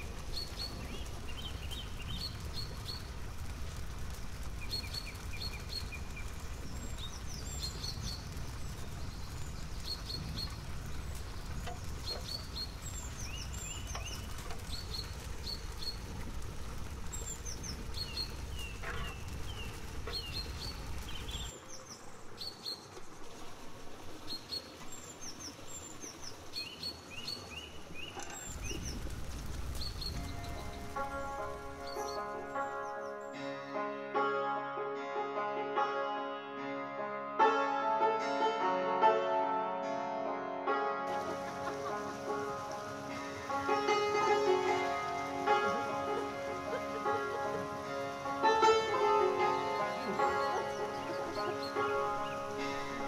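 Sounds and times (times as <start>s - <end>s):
small birds chirping: 0.0s - 33.4s, 41.1s - 53.0s.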